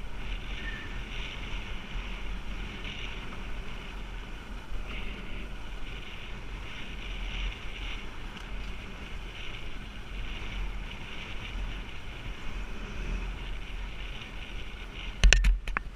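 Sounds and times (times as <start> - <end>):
low rumble: 0.0 - 15.9
wind buffeting microphone: 0.0 - 15.9.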